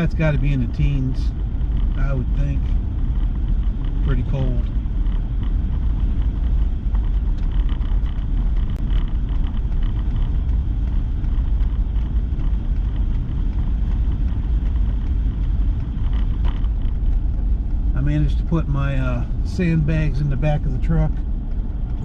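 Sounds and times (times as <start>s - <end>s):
truck engine rumble from inside cab: 0.0s - 22.0s.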